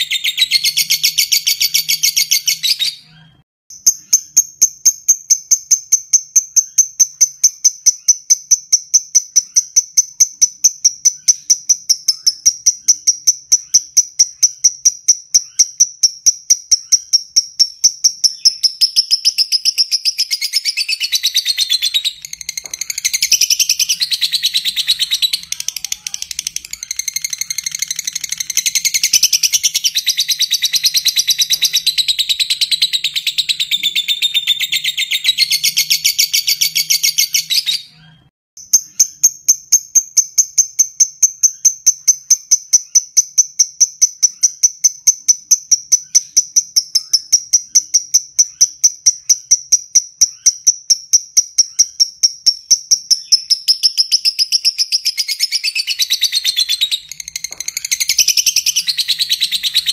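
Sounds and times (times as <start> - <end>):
lovebird chattering: 3.8 - 38.0, 40.0 - 59.9.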